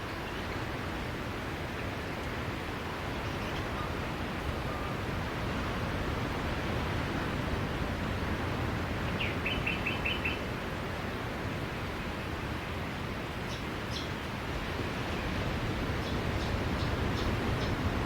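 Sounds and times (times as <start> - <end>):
sea surf on a beach: 0.0 - 18.0.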